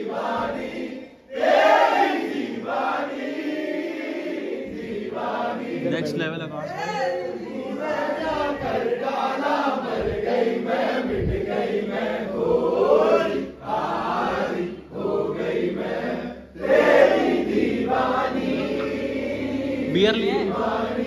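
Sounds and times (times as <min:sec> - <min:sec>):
group singing along: 0:00.0 - 0:21.0.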